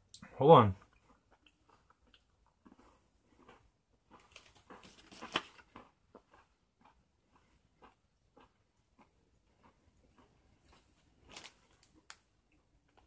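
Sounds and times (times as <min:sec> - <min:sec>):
chewing crunchy candy: 0:00.7 - 0:13.0.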